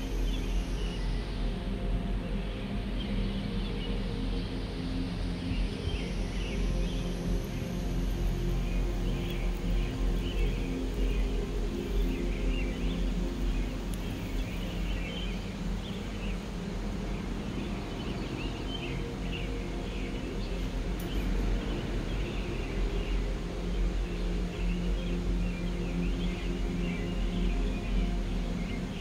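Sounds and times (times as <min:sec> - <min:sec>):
low steady drone: 0:00.0 - 0:29.0
small birds chirping: 0:00.0 - 0:29.0.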